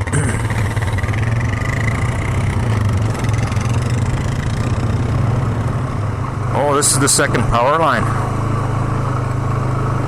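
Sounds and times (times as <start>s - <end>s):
atv engine droning: 0.0s - 10.0s.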